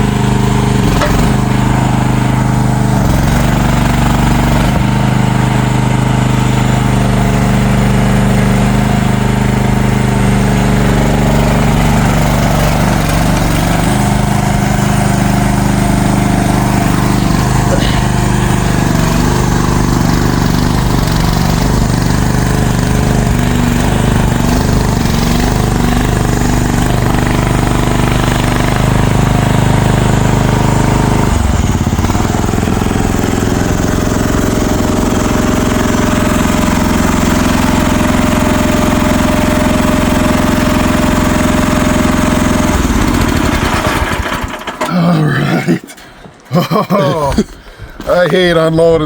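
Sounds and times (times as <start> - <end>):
diesel engine running loudly: 0.0 - 49.0.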